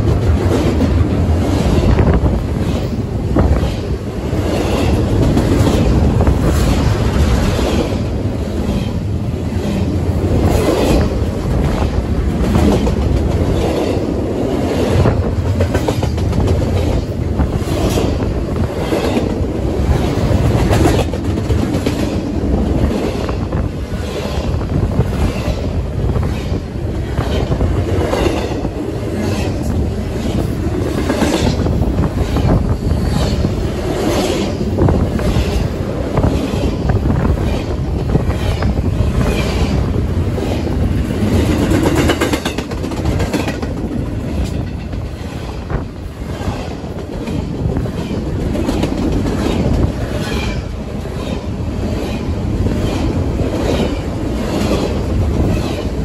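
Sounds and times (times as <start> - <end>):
clickety-clack of train wheels: 0.0 - 56.0
freight train rumbling past: 0.0 - 56.0.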